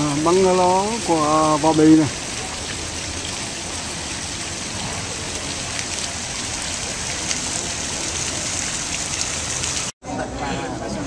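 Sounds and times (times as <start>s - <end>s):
water fountain splashing: 0.0s - 10.0s.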